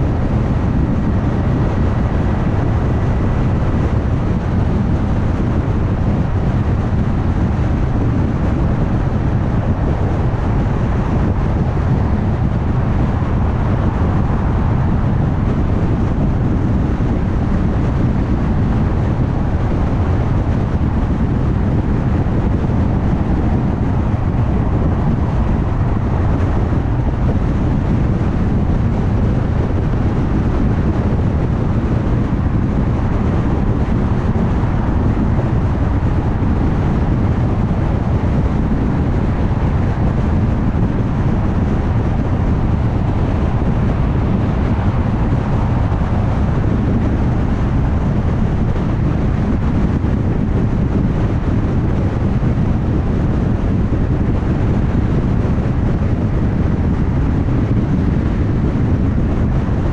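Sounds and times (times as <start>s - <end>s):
car driving at highway speed: 0.0s - 59.9s.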